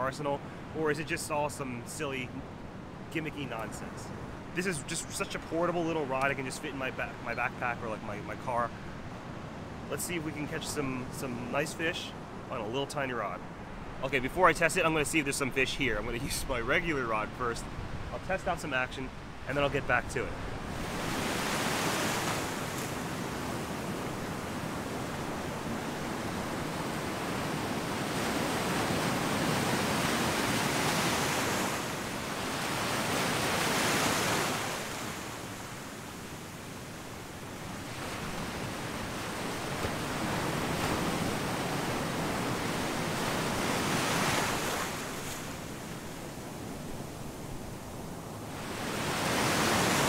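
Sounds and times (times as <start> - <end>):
ocean surf breaking on shore: 0.0 - 50.0.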